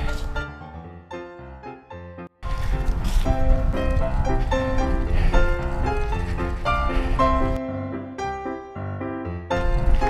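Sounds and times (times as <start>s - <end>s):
background music with keyboard: 0.0s - 10.0s.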